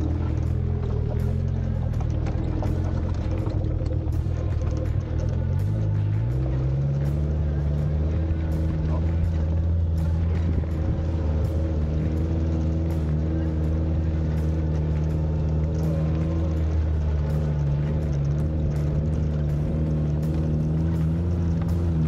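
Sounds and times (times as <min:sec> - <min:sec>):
car engine running: 0:00.0 - 0:22.0
clicks and rattles: 0:00.0 - 0:22.0.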